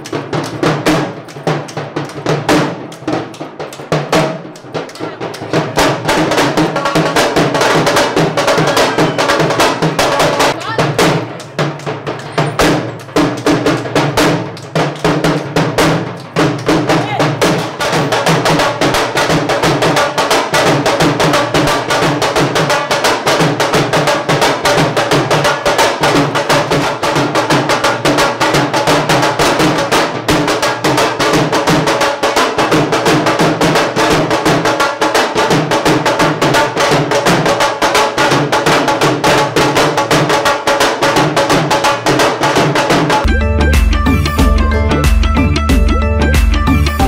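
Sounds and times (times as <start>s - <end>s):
drum played in fast beat: 0.0s - 47.0s.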